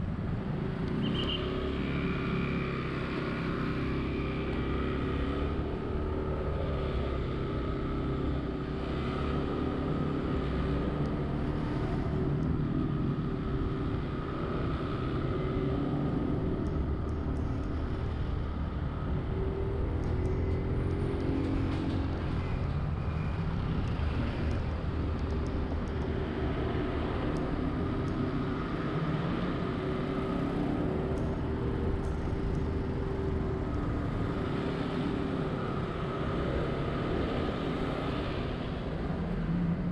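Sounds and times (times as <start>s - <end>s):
city traffic noise: 0.0s - 39.9s.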